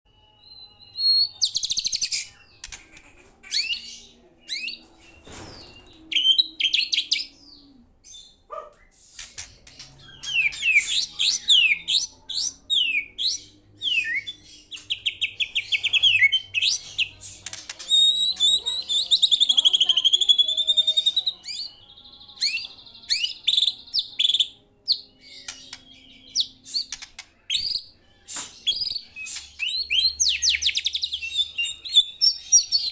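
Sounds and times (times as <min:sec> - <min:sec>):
songbird singing trills and whistles: 0:00.1 - 0:09.0, 0:09.6 - 0:32.9.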